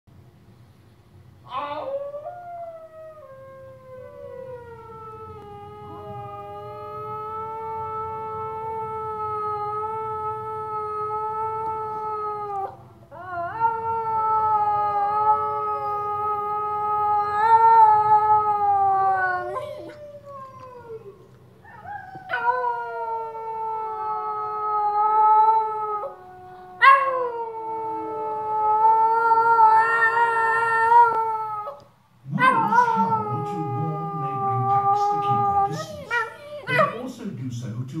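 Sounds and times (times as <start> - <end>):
dog howling: 1.5 - 37.1
wolf howls from television: 1.5 - 37.1.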